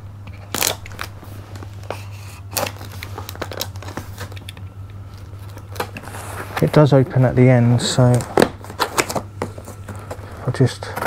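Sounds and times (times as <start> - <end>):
low hum: 0.0 - 11.0
tape crinkling: 0.2 - 11.0.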